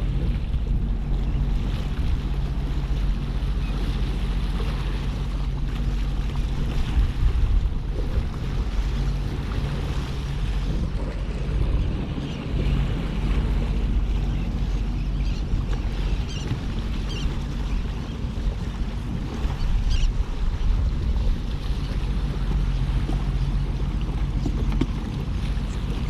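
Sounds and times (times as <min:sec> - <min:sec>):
sea waves: 0:00.0 - 0:26.0
wind buffeting microphone: 0:00.0 - 0:26.0.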